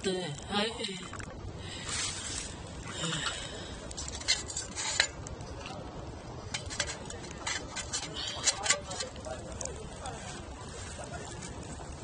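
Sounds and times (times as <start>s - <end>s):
camping gear clinking and clattering: 0.4s - 12.0s.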